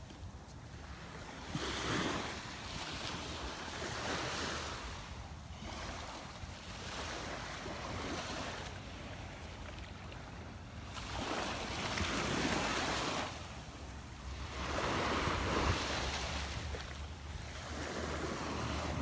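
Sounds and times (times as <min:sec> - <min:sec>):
small waves breaking on sand: 0:00.0 - 0:19.0
wind rumbling on microphone: 0:00.0 - 0:19.0.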